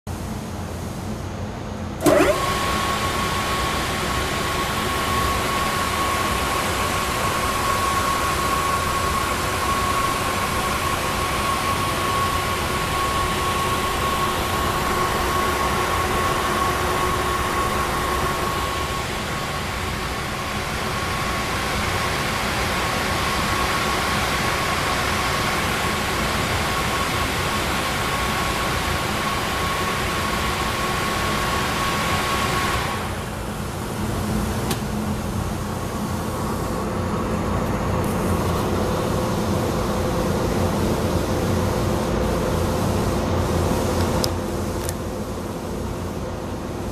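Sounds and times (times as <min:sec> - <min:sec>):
oven motor whine and airy rush: 0:00.1 - 0:46.9.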